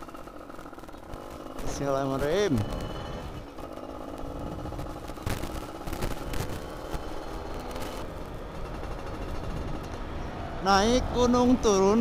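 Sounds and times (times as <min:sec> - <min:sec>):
moped two-stroke engine running: 0:00.0 - 0:12.0
road rumble: 0:00.0 - 0:12.0
wind: 0:00.0 - 0:12.0.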